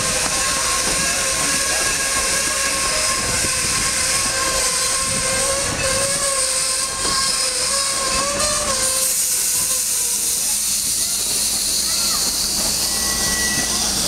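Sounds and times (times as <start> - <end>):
train wheel-and-rail rumble: 0.0 - 14.0
wavering wheel squeal: 0.1 - 14.0.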